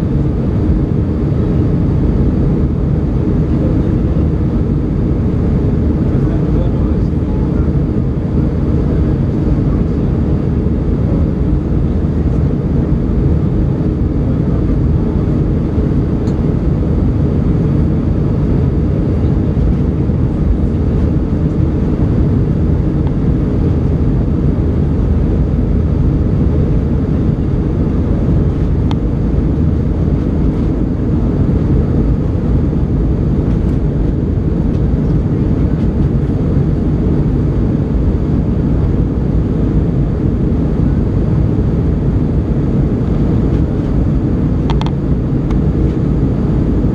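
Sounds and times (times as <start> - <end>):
jet engine cabin drone: 0.0 - 46.9.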